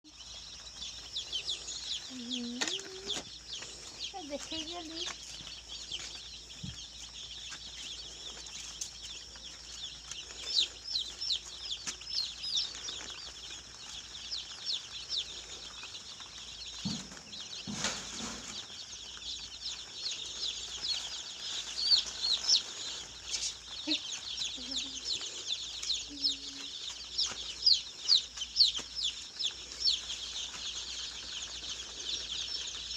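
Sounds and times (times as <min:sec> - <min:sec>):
chicks peeping: 0:00.0 - 0:32.9.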